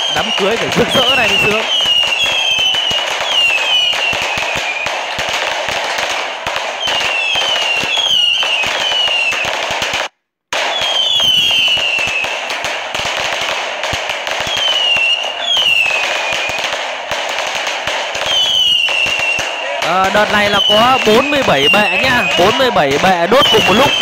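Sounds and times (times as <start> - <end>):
falling firework whistles: 0.0 - 5.5, 6.5 - 10.0, 10.6 - 12.5, 14.3 - 16.8, 18.2 - 24.0
fireworks crackling and bursting: 0.0 - 24.0.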